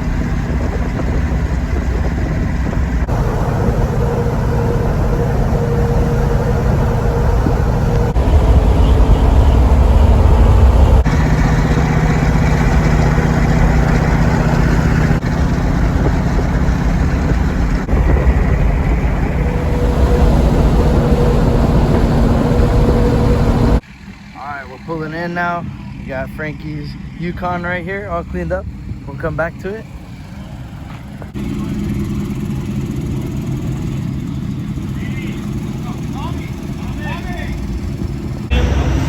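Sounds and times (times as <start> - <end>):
road rumble: 0.0 - 39.0
truck engine: 0.0 - 39.0.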